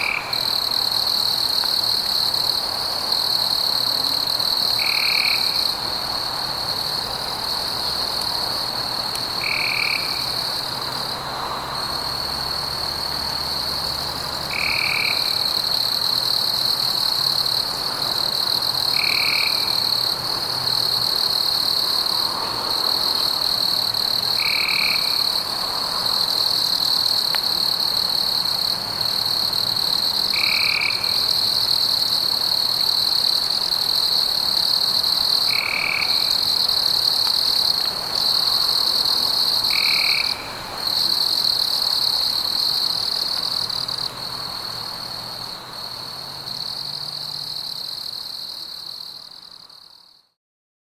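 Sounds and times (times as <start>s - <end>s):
high-pitched insect chorus: 0.0s - 50.2s.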